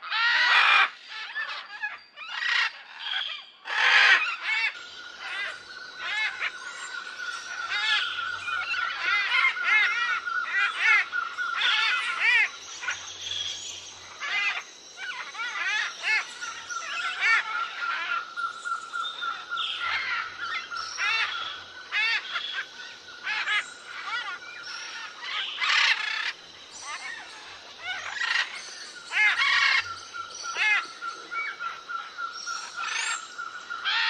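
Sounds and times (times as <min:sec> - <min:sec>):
birds chirping and calling: 0:00.0 - 0:34.0.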